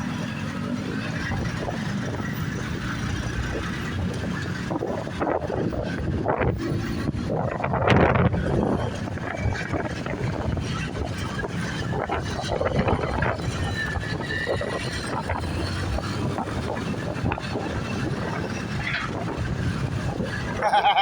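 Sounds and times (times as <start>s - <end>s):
street traffic: 0.0s - 21.0s
wind rushing over microphone: 0.0s - 21.0s.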